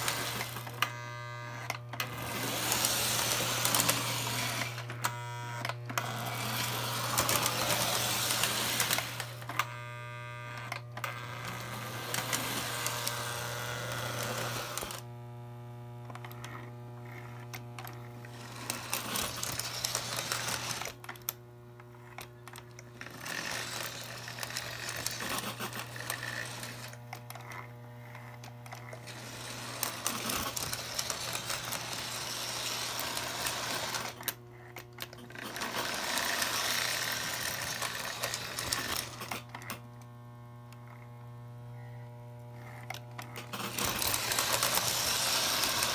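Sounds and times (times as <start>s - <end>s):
toy train motor whirring: 0.0s - 15.2s, 16.0s - 45.9s.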